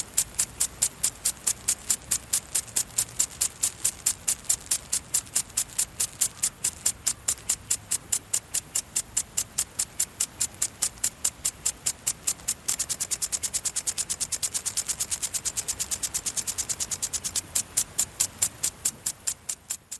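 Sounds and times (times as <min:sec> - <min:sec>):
sprinkler spraying hissing bursts: 0:00.0 - 0:19.9.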